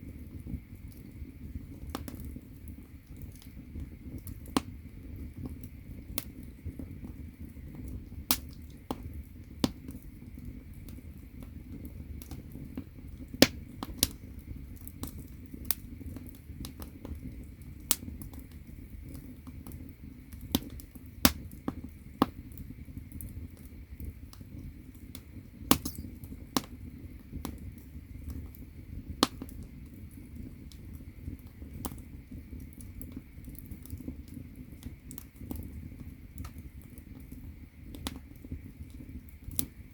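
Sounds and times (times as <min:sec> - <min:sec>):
firewood crackling and popping: 0:00.0 - 0:39.9
low rumble of fire: 0:00.0 - 0:39.9.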